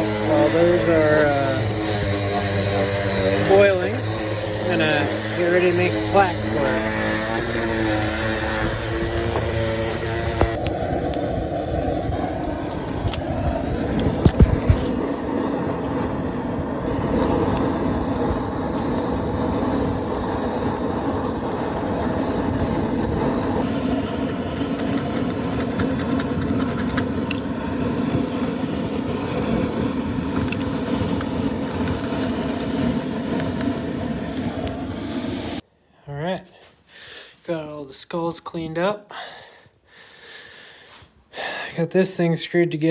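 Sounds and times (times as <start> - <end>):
machine running with low hum: 0.0 - 35.6.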